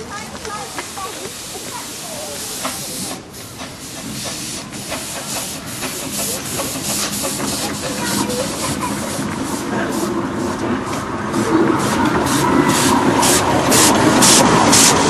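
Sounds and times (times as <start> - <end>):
steam locomotive chuffing: 0.0 - 15.0
hiss of steam: 0.8 - 15.0.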